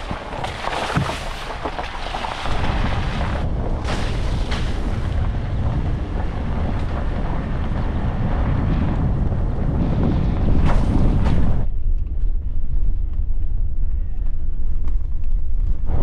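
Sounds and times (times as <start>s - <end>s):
truck engine and tyres rumbling: 0.0s - 16.0s
wind buffeting microphone: 0.0s - 16.0s.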